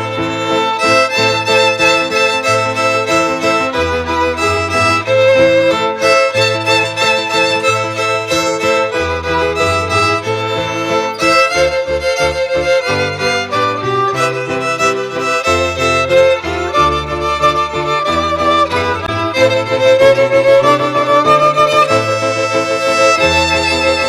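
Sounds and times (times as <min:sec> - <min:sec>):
string ensemble playing: 0:00.0 - 0:24.0.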